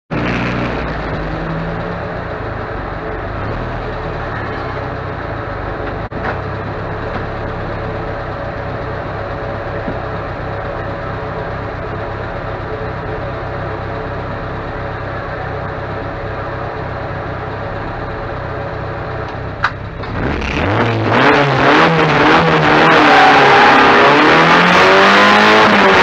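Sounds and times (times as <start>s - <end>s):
car engine idling: 0.1s - 26.0s.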